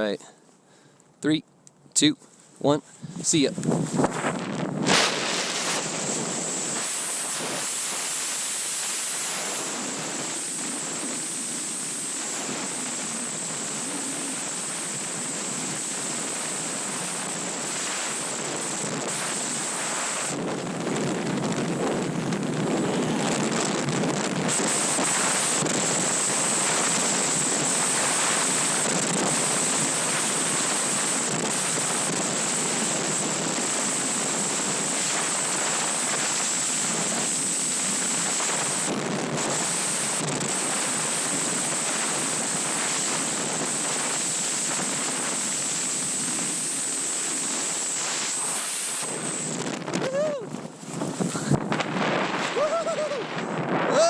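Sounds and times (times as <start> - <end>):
airflow buffeting microphone: 2.4 - 54.0.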